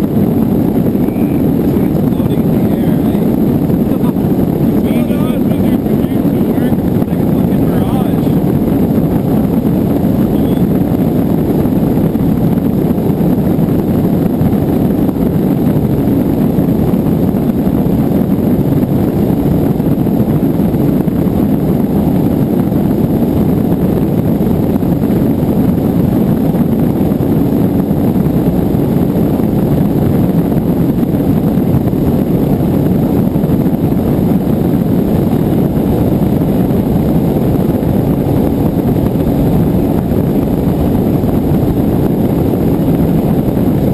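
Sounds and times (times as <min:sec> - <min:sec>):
boat outboard engine rushing: 0:00.0 - 0:43.9.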